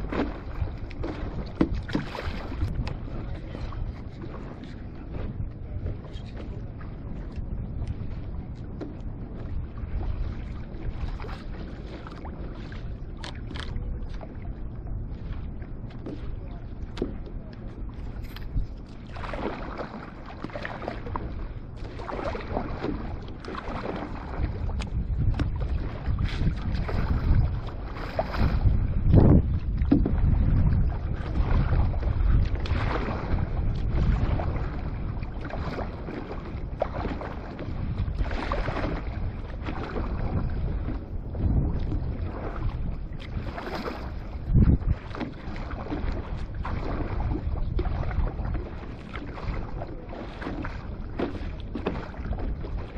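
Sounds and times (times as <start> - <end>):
water splashing against a board: 0.0 - 6.6, 7.3 - 14.5, 15.2 - 52.9
wind buffeting microphone: 0.0 - 52.9.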